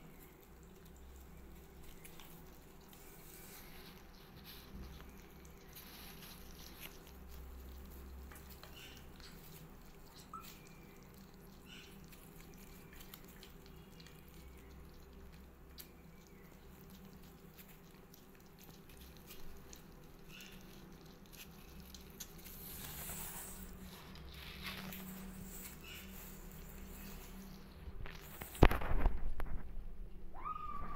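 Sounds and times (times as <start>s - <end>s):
kittens crunching kibble: 0.0s - 29.6s.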